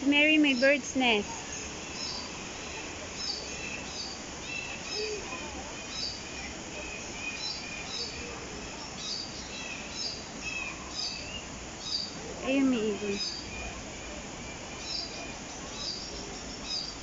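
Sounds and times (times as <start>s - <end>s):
birds chirping and calling: 0.2s - 17.0s.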